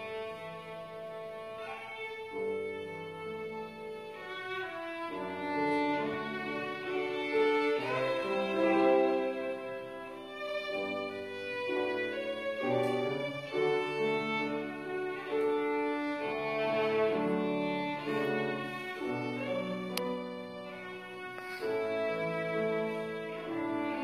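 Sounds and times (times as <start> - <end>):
violin long held notes: 0.0 - 24.0.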